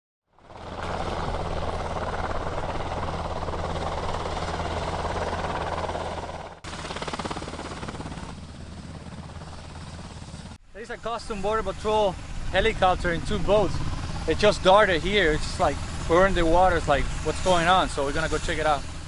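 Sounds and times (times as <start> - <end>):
helicopter flying low: 0.3 - 19.0.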